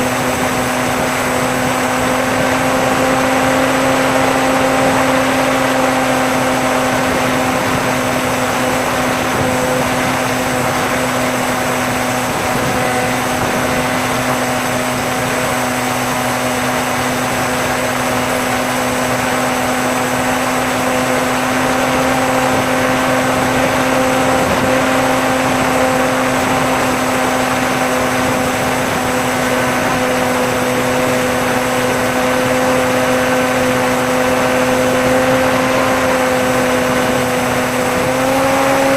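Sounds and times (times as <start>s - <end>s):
model plane electric motor humming: 0.0s - 38.9s
propeller rushing hiss: 0.0s - 38.9s.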